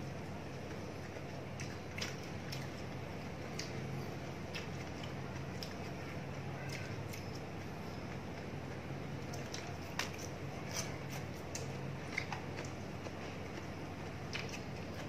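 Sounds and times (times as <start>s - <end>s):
steady low hum: 0.0s - 15.0s
chewing and mouth sounds: 0.2s - 15.0s.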